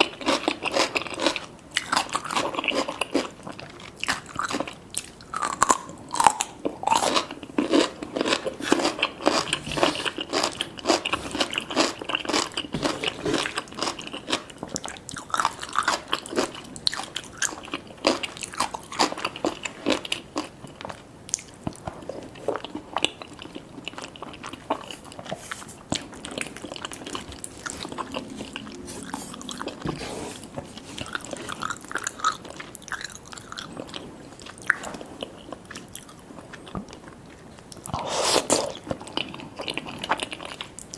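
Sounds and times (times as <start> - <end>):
wet chewing: 0.0 - 40.9.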